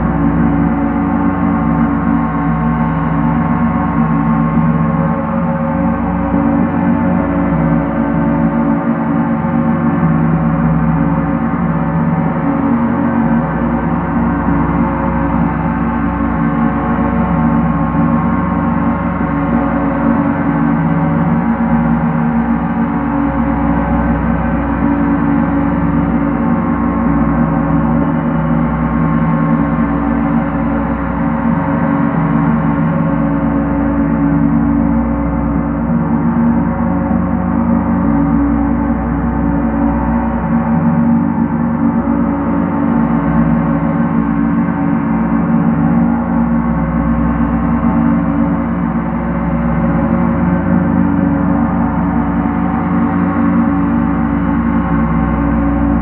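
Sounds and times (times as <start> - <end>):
gong roll: 0.0 - 56.0.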